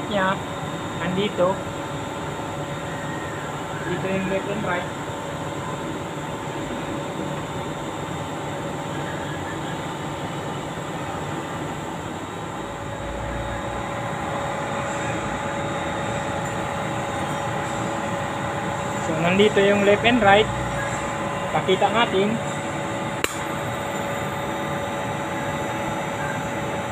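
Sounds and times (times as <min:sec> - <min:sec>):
faint steady whine: 0:00.0 - 0:26.9
mechanical hum: 0:00.0 - 0:26.9.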